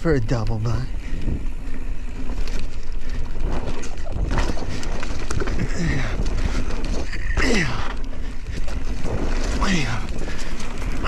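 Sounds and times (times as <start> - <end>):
bike tyres rolling over dirt: 0.0 - 11.0
wind buffeting microphone: 0.1 - 11.0.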